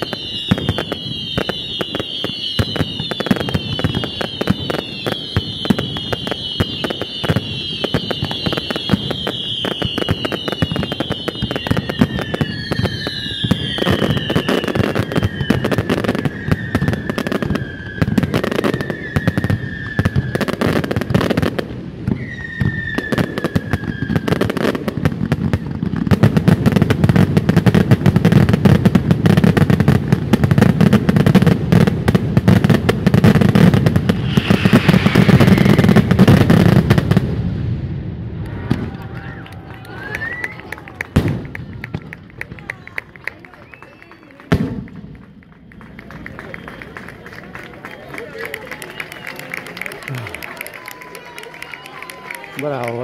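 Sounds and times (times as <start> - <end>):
firework whistles gliding down: 0.0 - 24.8, 33.1 - 42.0, 43.6 - 52.4
fireworks bangs and crackling: 0.0 - 53.0.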